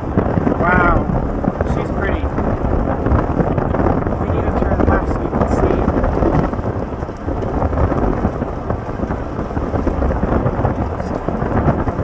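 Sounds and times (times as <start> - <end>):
rumbling storm wind: 0.0 - 12.0.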